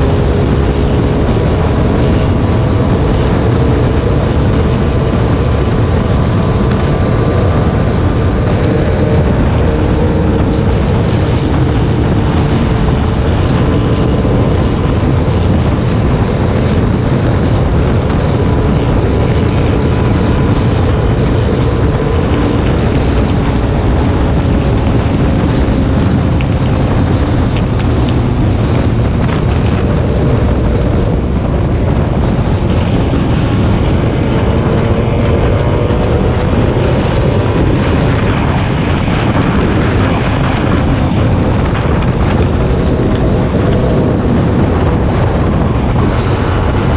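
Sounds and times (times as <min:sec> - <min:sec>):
vehicle engine drone: 0:00.0 - 0:46.9
wind rushing across microphone: 0:00.0 - 0:46.9.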